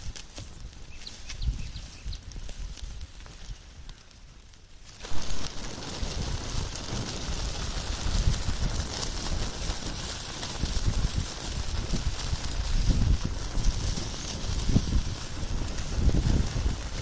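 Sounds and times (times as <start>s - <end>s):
pods popping in embers: 0.0s - 17.0s
wood fire crackling: 0.0s - 17.0s.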